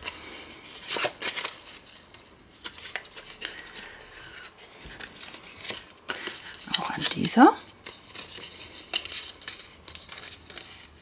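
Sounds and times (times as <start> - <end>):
paper crackles: 0.0 - 11.0
paper rustling and rubbing: 0.0 - 11.0.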